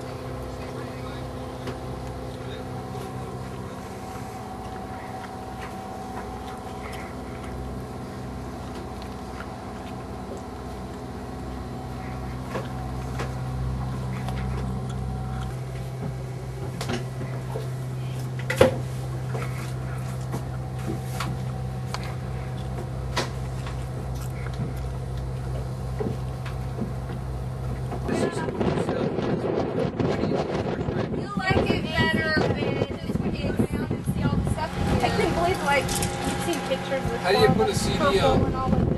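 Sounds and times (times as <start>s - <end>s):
low machinery hum: 0.0s - 38.9s.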